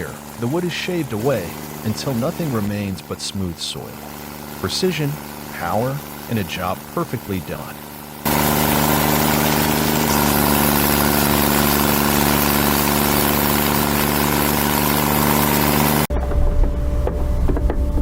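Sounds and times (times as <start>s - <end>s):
different machine sound: 0.0s - 18.0s
heavy machine engine running: 0.0s - 18.0s.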